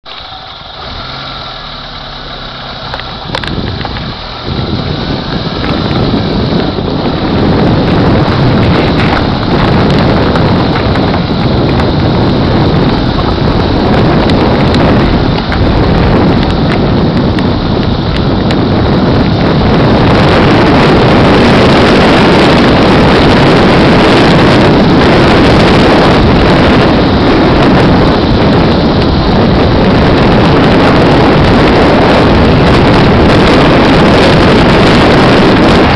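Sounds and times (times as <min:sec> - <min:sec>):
wind noise on microphone: 0:00.0 - 0:35.9.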